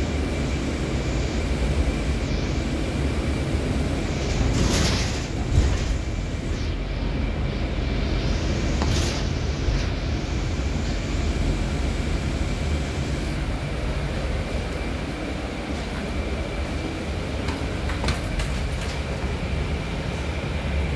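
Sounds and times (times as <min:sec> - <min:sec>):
thin high whine: 0:00.0 - 0:17.3
bus engine and road rumble: 0:00.0 - 0:20.9.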